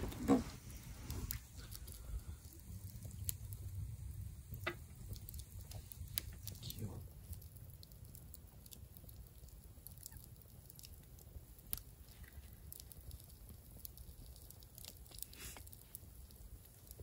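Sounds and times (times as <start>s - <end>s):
campfire crackling and popping: 0.0s - 17.0s
low steady rumble: 0.0s - 17.0s.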